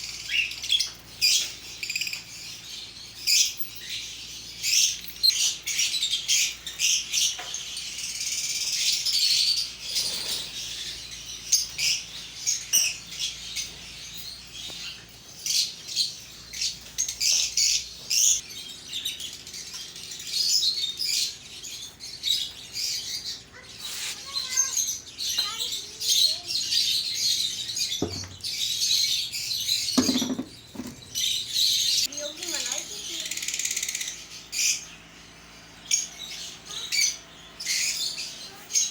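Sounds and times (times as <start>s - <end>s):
parrots chattering and chirping: 0.0s - 38.9s.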